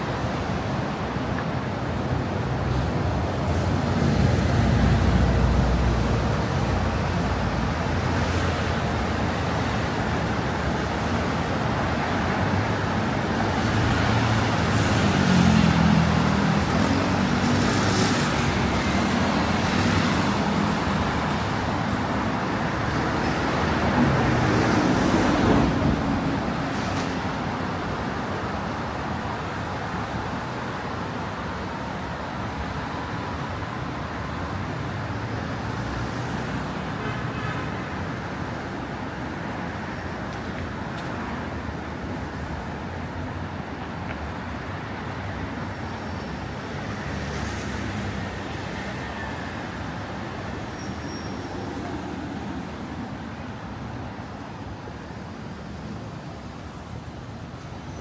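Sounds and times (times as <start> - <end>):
city road traffic: 0.0 - 58.0
passing vehicle engines humming: 0.0 - 58.0.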